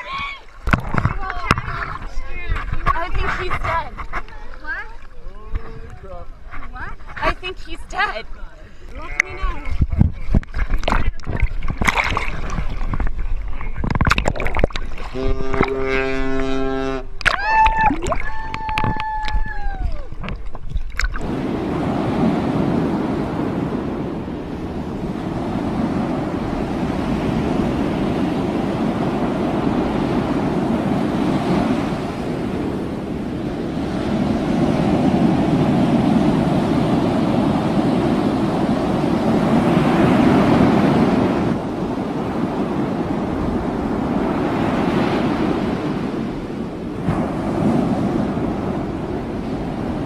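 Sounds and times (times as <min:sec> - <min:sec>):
wind buffeting microphone: 0:00.0 - 0:08.2, 0:08.9 - 0:50.0
rough sea washing: 0:00.0 - 0:50.0.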